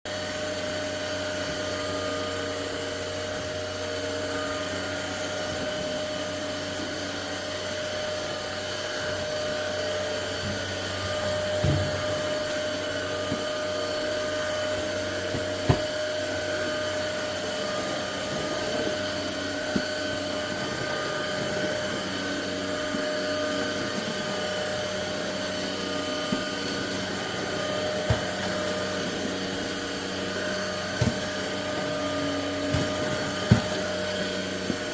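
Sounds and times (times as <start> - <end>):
stick vacuum cleaner running: 0.1 - 34.9.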